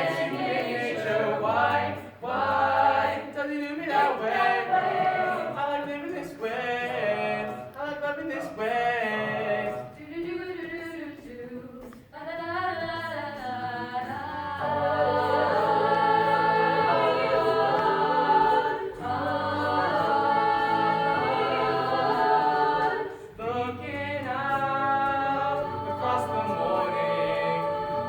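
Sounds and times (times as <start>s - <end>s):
a cappella group singing chords: 0.0s - 28.0s.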